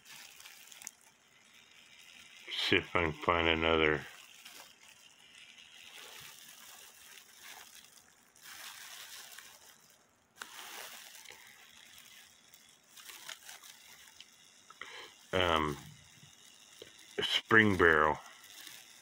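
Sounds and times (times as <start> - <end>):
plastic gloves rustling: 0.0 - 19.0.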